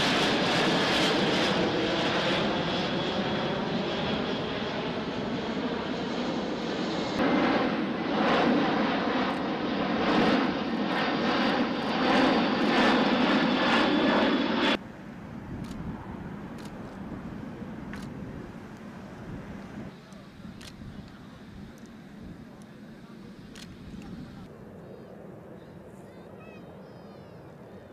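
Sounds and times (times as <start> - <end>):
jet engines roaring: 0.0 - 27.9.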